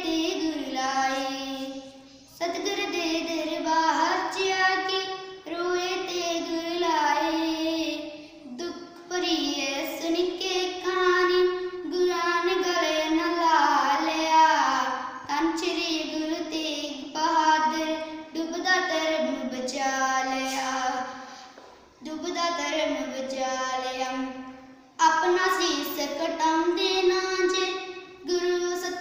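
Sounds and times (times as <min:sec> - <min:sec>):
girl singing: 0:00.0 - 0:21.4, 0:25.0 - 0:29.0.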